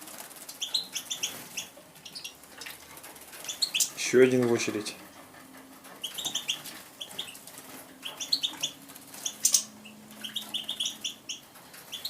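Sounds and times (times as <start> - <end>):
bird wings flapping: 0.0 - 4.6, 6.0 - 12.0
songbirds chirping: 0.0 - 12.0.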